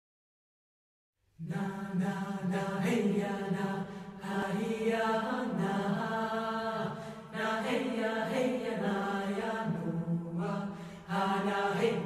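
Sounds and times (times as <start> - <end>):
choir chanting wordless melody: 1.4 - 12.0.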